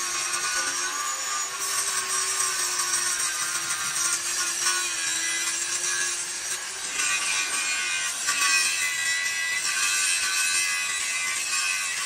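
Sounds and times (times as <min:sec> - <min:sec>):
tool scraping steel: 0:00.0 - 0:12.0.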